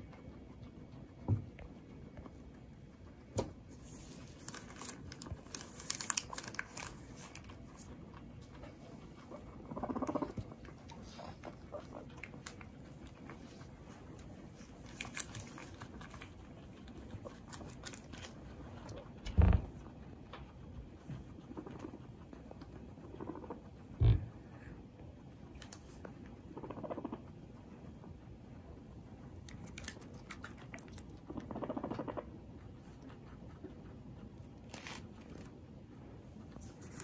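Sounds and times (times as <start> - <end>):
guinea pig crunching food: 0.0 - 37.0.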